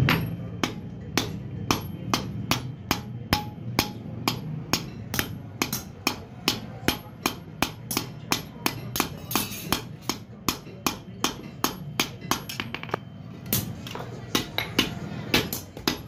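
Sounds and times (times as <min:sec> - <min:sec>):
hammer striking metal on anvil: 0:00.0 - 0:16.0.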